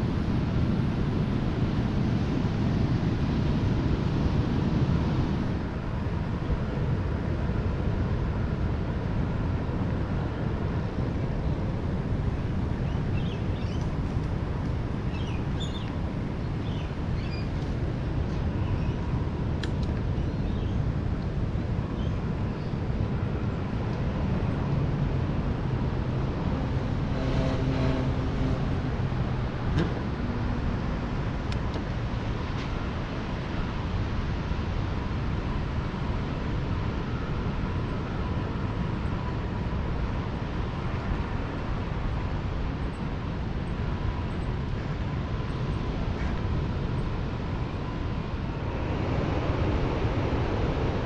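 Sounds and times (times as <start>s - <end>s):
wind rumble on microphone: 0.0s - 51.0s.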